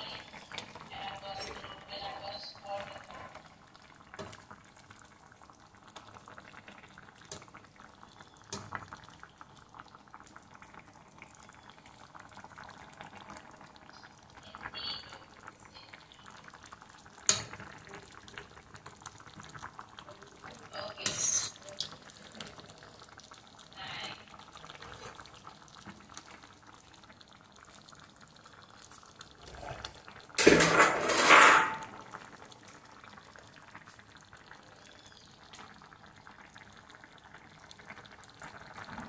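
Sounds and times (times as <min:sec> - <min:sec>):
broth bubbling in a pan: 0:00.0 - 0:39.0.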